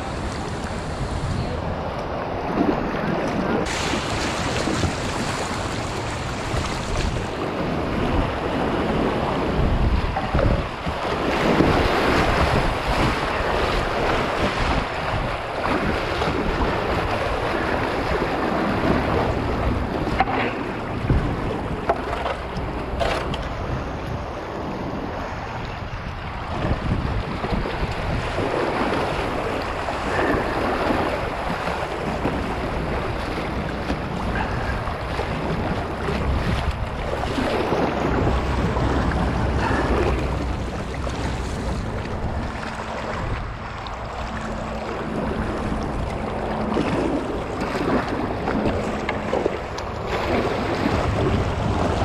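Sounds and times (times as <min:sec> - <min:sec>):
paddle strokes splashing: 0:00.0 - 0:52.0
rushing whitewater: 0:00.0 - 0:52.0
wind on microphone: 0:00.0 - 0:52.0.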